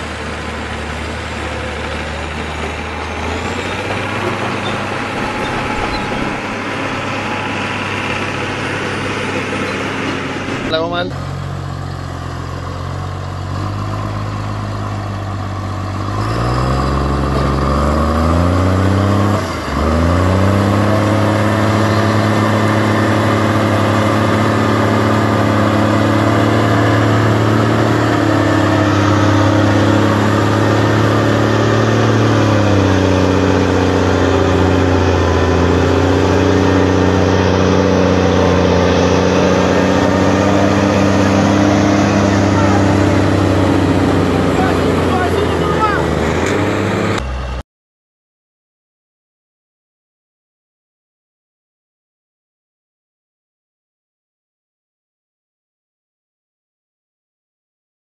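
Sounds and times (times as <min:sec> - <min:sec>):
heavy diesel engines revving: 0:00.0 - 0:47.6.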